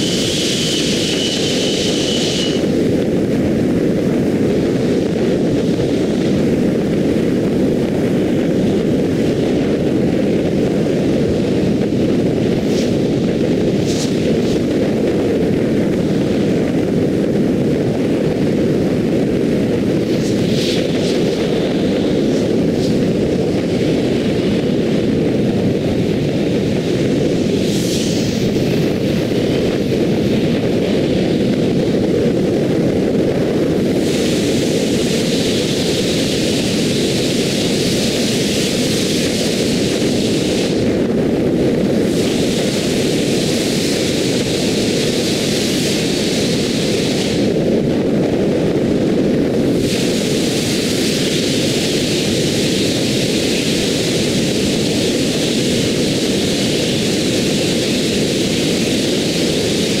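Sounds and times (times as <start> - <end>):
car road and wind noise: 0.0 - 60.0.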